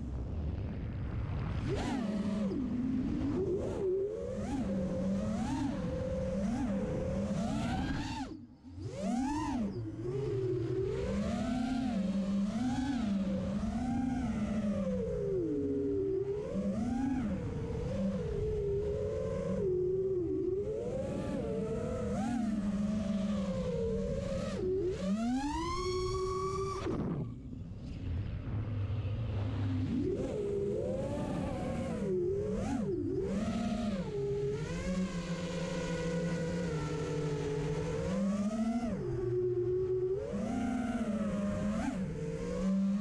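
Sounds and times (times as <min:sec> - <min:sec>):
drone motors whining: 0:01.6 - 0:43.0.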